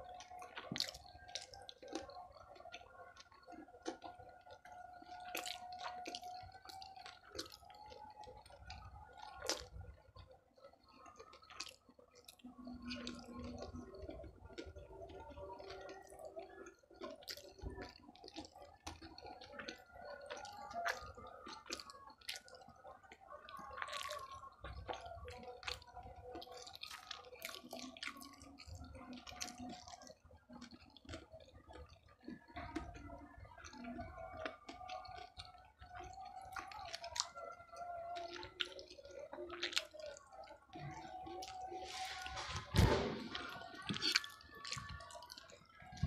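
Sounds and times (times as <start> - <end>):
wet chewing: 0.0 - 46.0
mouth clicks and smacks: 0.2 - 46.0.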